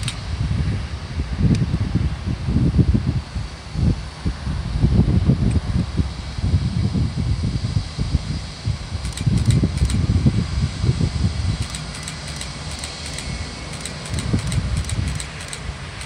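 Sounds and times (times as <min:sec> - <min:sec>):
distant jet engines whining: 0:00.0 - 0:16.0
wind rumbling on microphone: 0:00.0 - 0:16.0.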